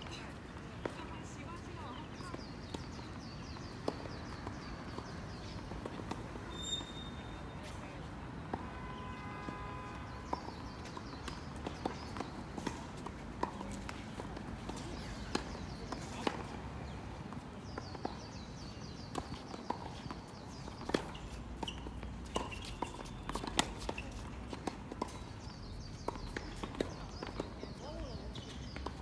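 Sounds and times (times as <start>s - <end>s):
shoes squeaking on court floor: 1.8s - 8.7s, 10.3s - 17.0s, 17.8s - 29.0s.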